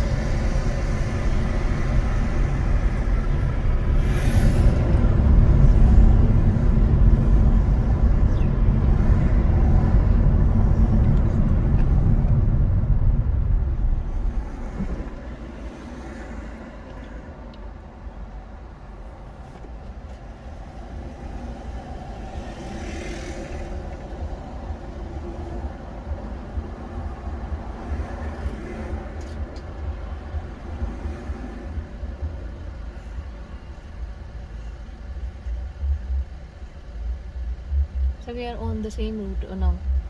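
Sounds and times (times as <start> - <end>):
engine and road rumble in car: 0.0 - 40.0.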